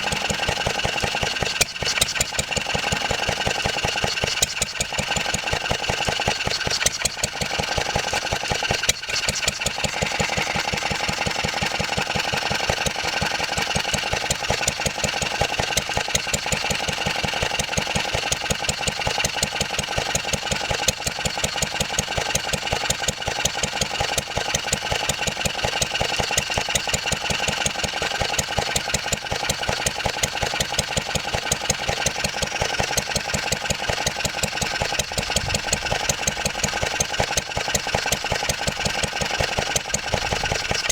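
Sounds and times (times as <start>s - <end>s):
stationary engine running: 0.0s - 40.9s.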